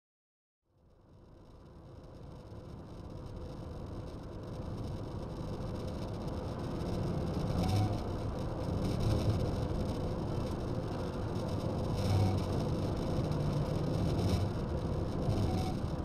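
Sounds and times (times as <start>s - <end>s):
car road noise from cabin: 2.1s - 16.0s.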